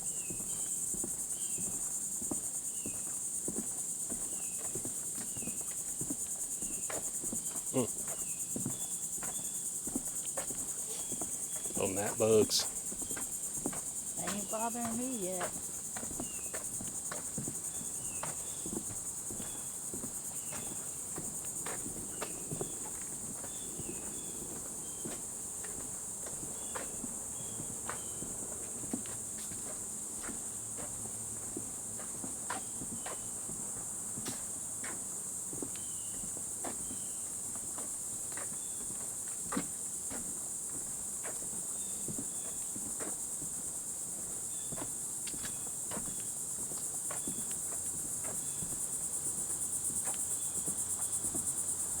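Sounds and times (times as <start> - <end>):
footsteps on a trail: 0.0 - 52.0
insects chorus: 0.0 - 52.0.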